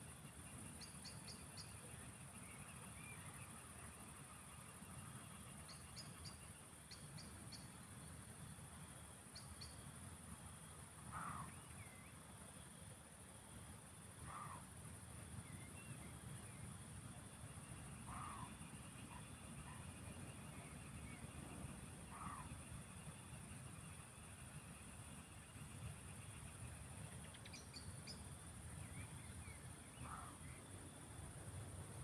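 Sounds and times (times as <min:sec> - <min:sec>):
insects trilling: 0:00.0 - 0:12.2, 0:13.8 - 0:32.0.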